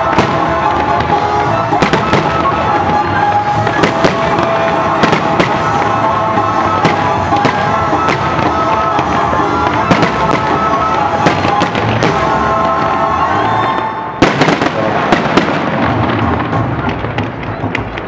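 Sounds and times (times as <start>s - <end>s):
fireworks bursting and crackling: 0.0s - 18.0s
music: 0.0s - 18.0s.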